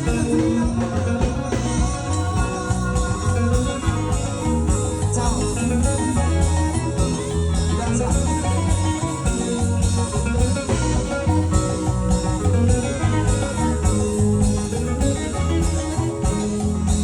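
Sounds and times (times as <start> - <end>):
instrumental dance music: 0.0 - 17.0.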